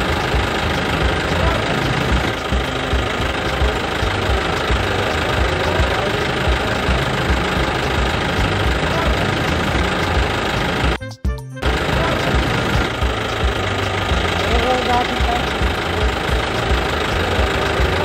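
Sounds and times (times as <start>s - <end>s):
vehicle engine knocking: 0.0s - 11.0s, 11.6s - 18.0s.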